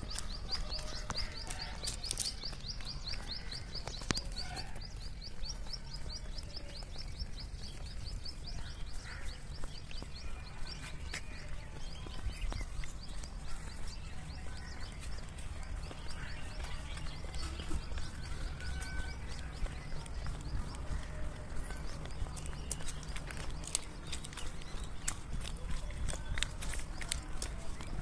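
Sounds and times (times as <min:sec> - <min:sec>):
small bird chirping: 0:00.0 - 0:28.0.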